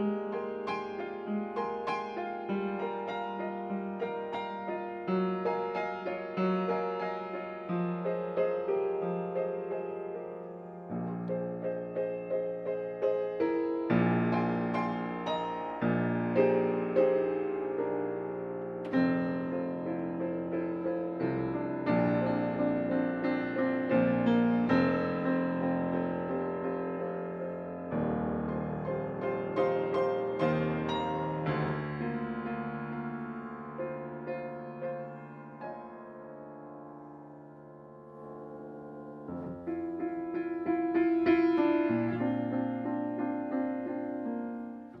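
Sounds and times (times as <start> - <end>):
solo piano chords: 0.0 - 45.0.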